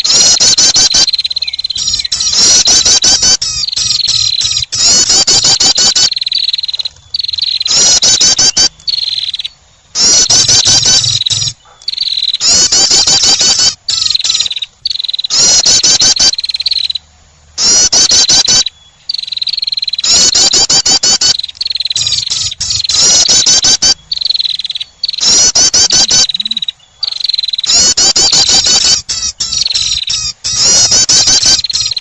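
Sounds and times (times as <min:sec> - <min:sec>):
bird chirping trills: 0:00.0 - 0:32.0.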